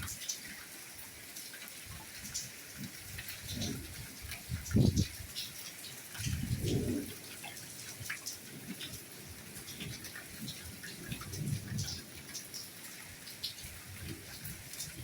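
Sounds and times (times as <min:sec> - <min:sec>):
soft rain falling: 0:00.0 - 0:15.0.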